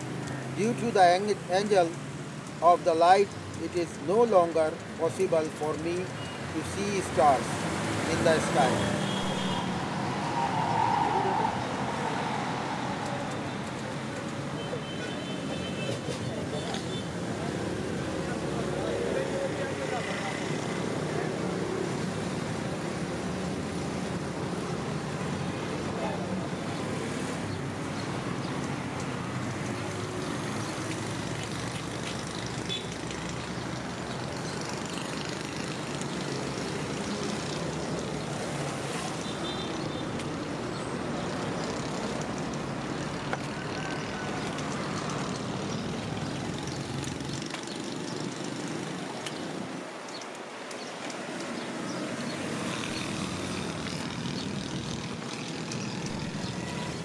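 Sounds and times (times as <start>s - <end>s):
street traffic: 0.0s - 57.0s.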